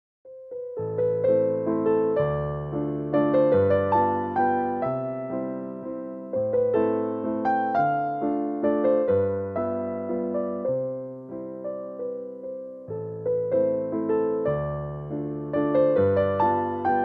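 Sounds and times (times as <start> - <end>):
gentle piano music: 0.3 - 17.0.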